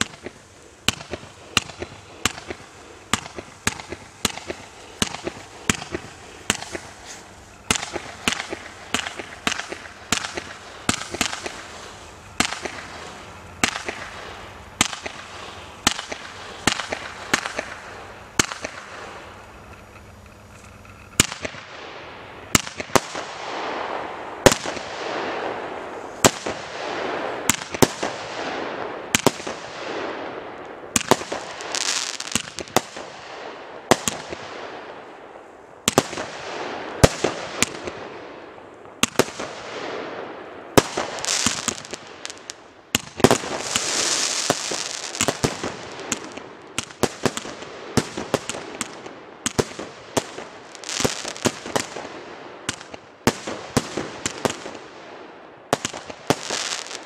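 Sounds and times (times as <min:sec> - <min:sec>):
fireworks hissing: 0:00.0 - 0:28.4, 0:29.1 - 0:34.3, 0:40.7 - 0:54.8, 0:55.8 - 0:57.0
fireworks bangs: 0:00.0 - 0:57.0.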